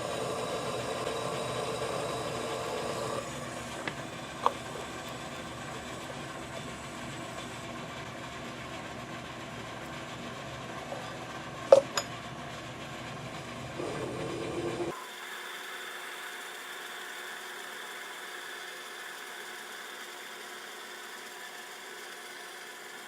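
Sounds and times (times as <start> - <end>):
metal lathe running: 0.0 - 23.0
thin steady machine hum: 0.0 - 23.0.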